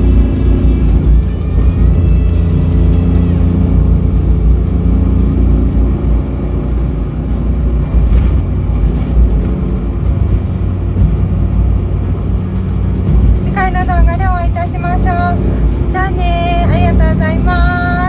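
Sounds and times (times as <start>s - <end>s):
van engine exhaust rumble: 0.0s - 18.0s.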